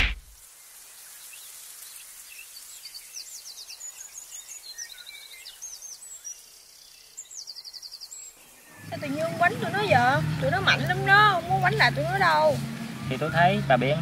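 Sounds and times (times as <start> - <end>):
steady outdoor hiss: 0.0 - 14.0
small birds chirping and trilling: 0.4 - 14.0.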